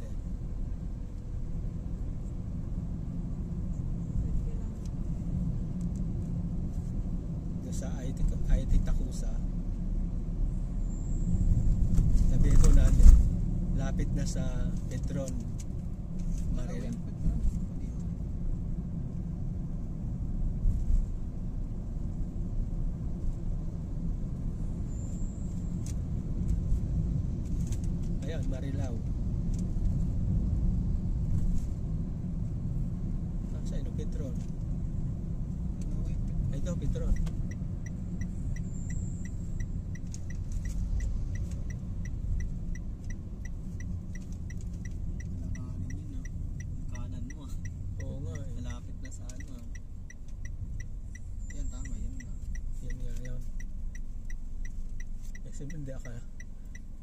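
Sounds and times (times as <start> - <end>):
car road and engine rumble: 0.0 - 57.0
turn signal ticking: 0.0 - 57.0.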